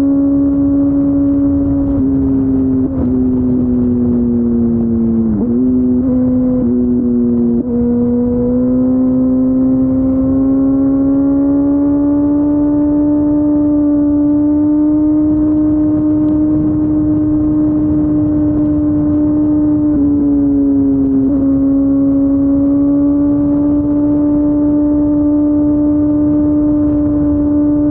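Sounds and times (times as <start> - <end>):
motorcycle engine drone: 0.0 - 27.9
wind rush: 0.0 - 27.9.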